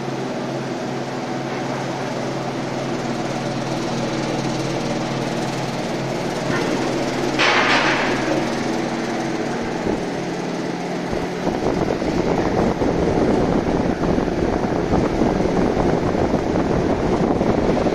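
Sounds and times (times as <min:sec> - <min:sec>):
vibrating screen machine rattling: 0:01.1 - 0:17.9.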